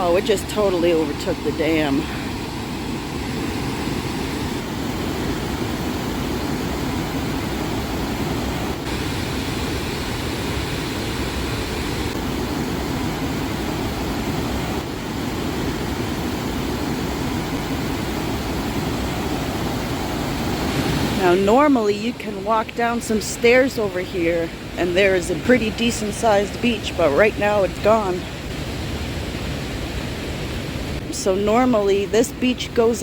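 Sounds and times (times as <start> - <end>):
river pouring over a dam: 0.0 - 33.0.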